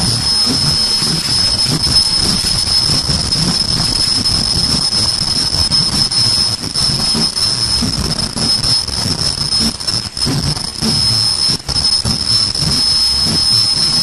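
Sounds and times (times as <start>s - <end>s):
machine high-pitched whine: 0.0s - 14.0s.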